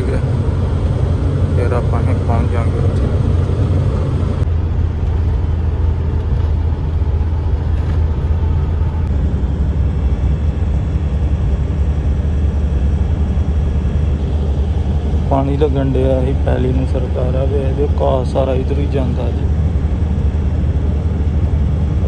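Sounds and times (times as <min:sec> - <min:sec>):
road noise: 0:00.0 - 0:22.0
truck engine hum: 0:00.0 - 0:22.0.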